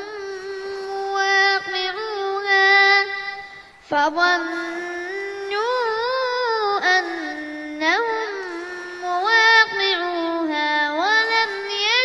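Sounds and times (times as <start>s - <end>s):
boy chanting recitation: 0.0s - 12.0s.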